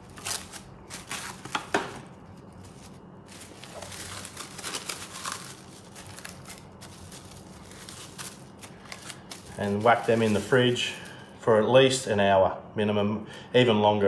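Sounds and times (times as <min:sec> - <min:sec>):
plastic cling wrap crinkling: 0:00.0 - 0:11.3.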